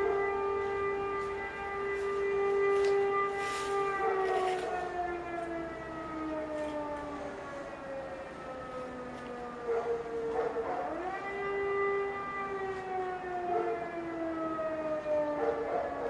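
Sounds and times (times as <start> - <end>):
air-raid siren wailing: 0.0 - 16.0.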